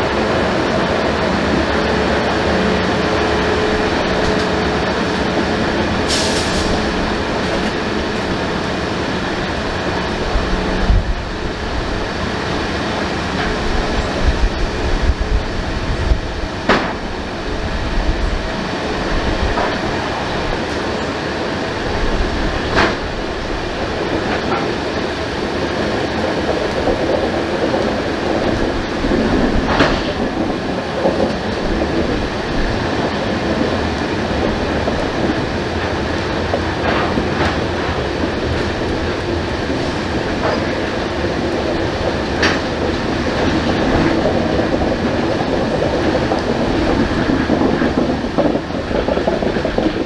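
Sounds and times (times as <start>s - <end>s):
freight train wheels rumbling on rails: 0.0s - 50.0s.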